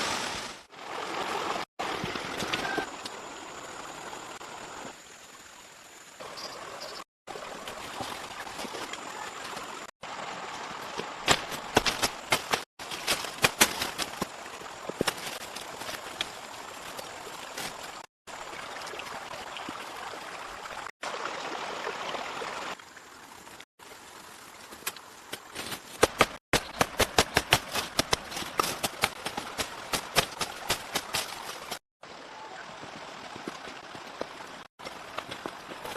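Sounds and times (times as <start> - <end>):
rushing water: 0.0 - 35.9.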